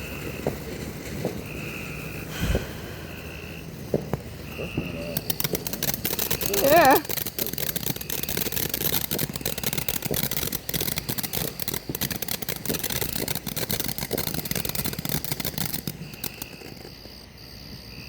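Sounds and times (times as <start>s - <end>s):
ground firework crackling: 0.0s - 18.0s.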